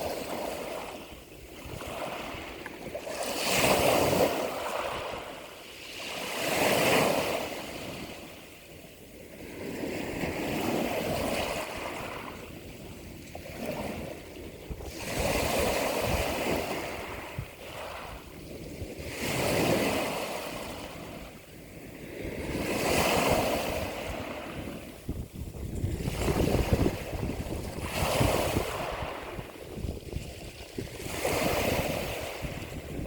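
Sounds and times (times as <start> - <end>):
ocean waves washing: 0.0 - 8.5, 9.2 - 33.0.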